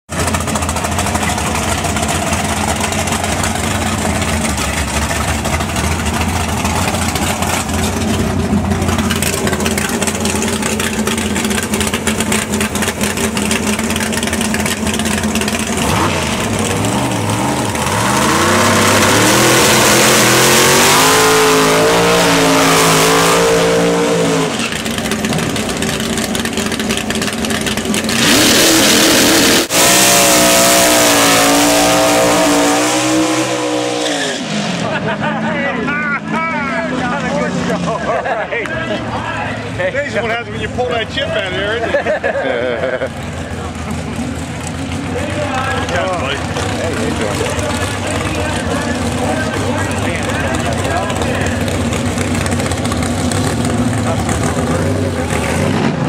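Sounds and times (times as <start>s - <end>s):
drag-race car engines idling: 0.1s - 29.7s, 30.8s - 56.0s
engines revving: 0.1s - 56.0s
full-throttle car launch: 0.1s - 56.0s.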